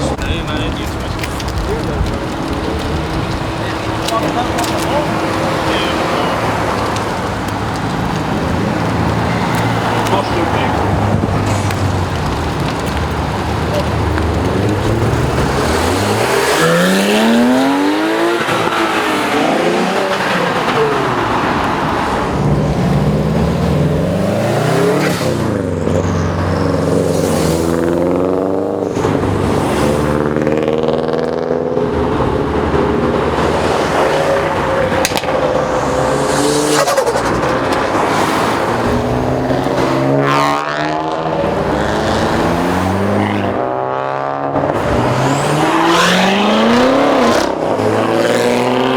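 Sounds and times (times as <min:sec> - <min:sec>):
car engines revving: 0:00.0 - 0:48.9
cars passing by: 0:00.0 - 0:48.9.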